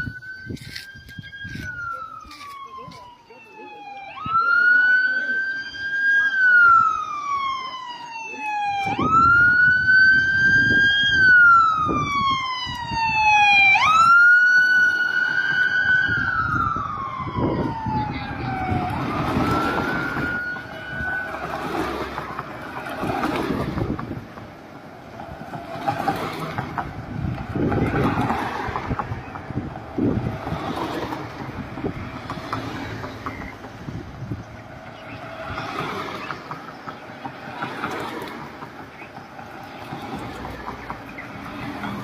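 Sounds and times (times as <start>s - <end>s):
road traffic passing: 0.0s - 42.0s
voices: 1.4s - 9.5s, 16.1s - 42.0s.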